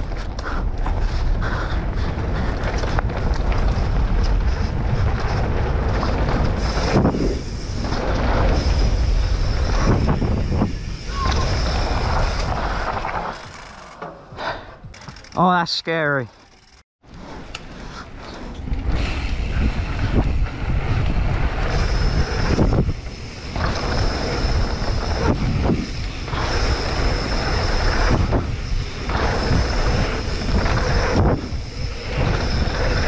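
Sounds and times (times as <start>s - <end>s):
wind buffeting microphone: 0.0s - 13.0s, 18.1s - 33.0s
bike tyres rumbling over dirt: 0.0s - 14.0s, 17.1s - 33.0s.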